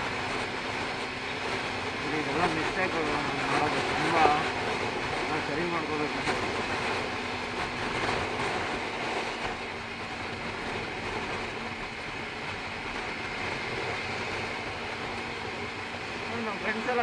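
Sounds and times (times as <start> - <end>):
faint motorcycle engine hum: 0.0 - 17.0
wind rush on microphone: 0.0 - 17.0.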